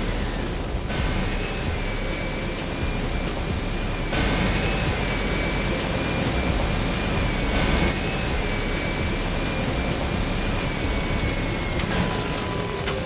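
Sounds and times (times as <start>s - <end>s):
drivetrain and wheels noise: 0.0s - 13.0s
electric motor whine: 0.0s - 13.0s.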